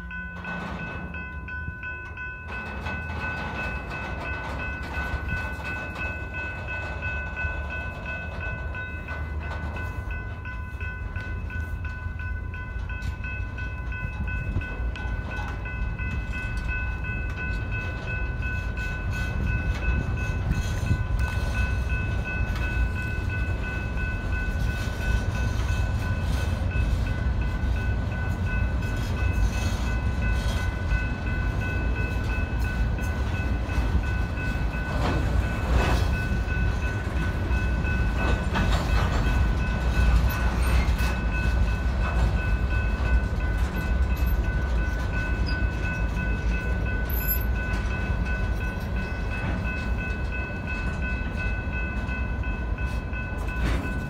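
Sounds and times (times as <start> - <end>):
crossing bell ringing: 0.0 - 54.0
freight train wheels rumbling on rail: 0.0 - 54.0
train cars clattering: 0.0 - 54.0.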